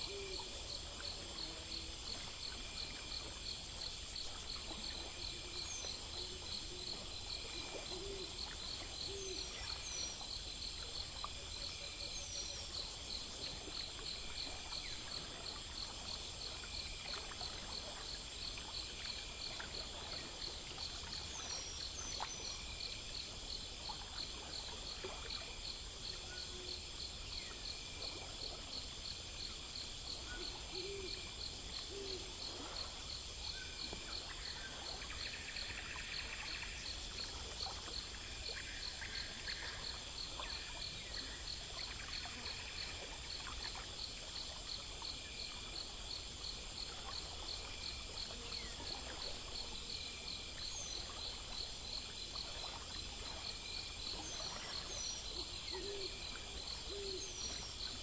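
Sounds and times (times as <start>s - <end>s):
crickets chirping: 0.0s - 58.0s
insects trilling: 0.0s - 58.0s.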